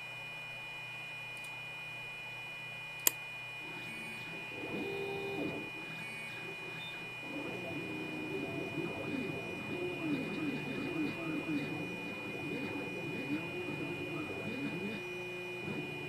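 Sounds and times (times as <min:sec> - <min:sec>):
stepper motor hum and whine: 0:03.0 - 0:16.0.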